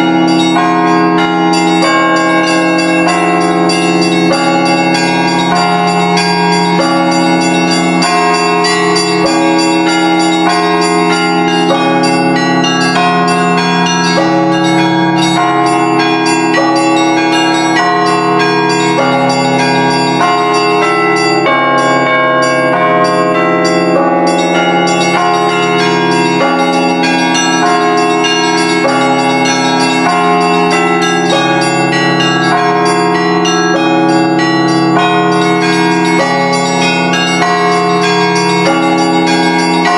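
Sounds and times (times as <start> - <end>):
low church bells humming: 0.0 - 39.9
small high-pitched bells striking: 0.0 - 39.9.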